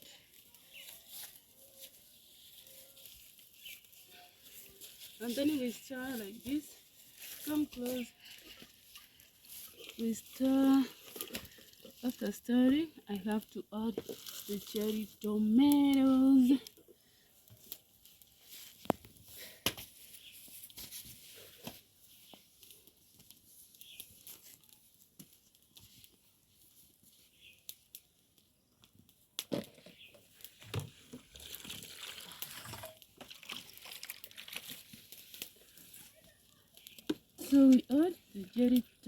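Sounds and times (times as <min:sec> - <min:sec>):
rustling and crinkling: 0:00.0 - 0:39.0.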